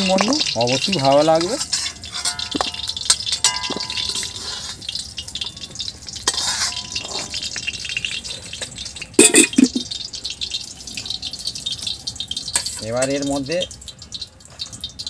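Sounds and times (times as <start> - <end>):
steel plates and utensils clinking: 0.0 - 10.4, 11.0 - 15.0
oil hissing in wok: 0.0 - 15.0.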